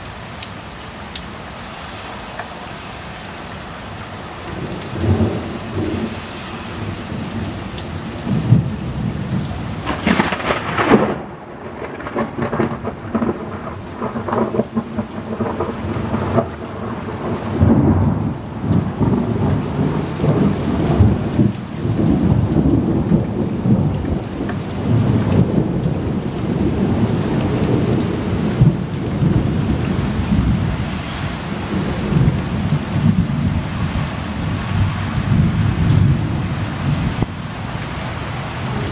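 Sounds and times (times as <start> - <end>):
rain falling: 0.0 - 38.9
thunder rumbling: 4.5 - 37.4.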